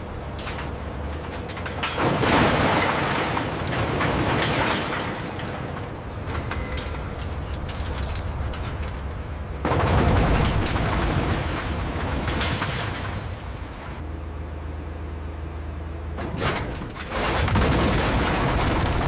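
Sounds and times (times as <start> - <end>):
scrap steel crashing and clattering: 0.0 - 13.8, 16.2 - 19.0
crane engine rumble: 0.0 - 19.0.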